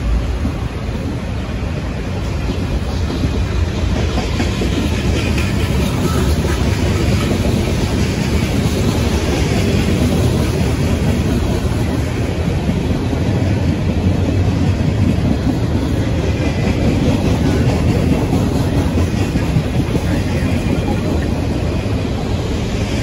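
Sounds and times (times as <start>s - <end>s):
train wheels rolling on rails: 0.0s - 23.0s.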